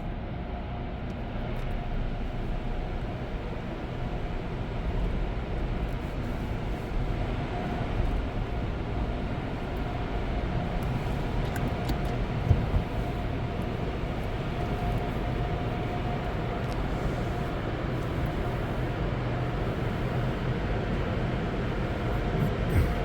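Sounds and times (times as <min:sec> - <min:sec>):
car wash equipment rumbling: 0:02.0 - 0:23.0.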